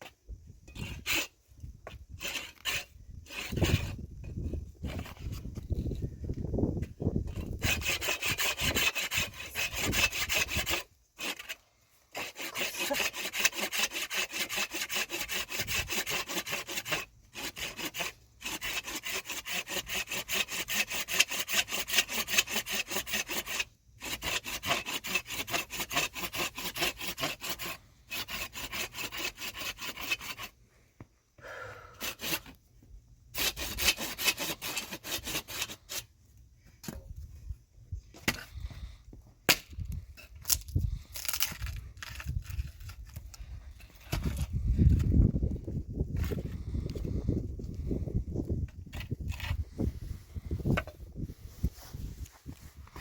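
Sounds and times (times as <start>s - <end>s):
hand saw cutting wood: 0.0s - 6.1s, 7.2s - 30.6s, 31.9s - 32.6s, 33.3s - 36.1s, 39.5s - 45.3s, 46.1s - 53.0s.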